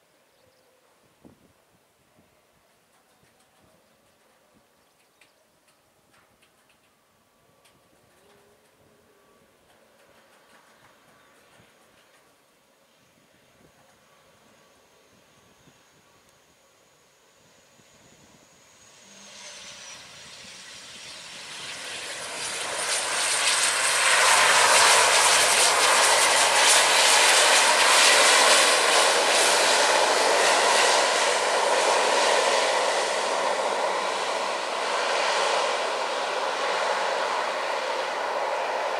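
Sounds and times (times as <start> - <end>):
turboprop engines and propellers: 0.0 - 38.9.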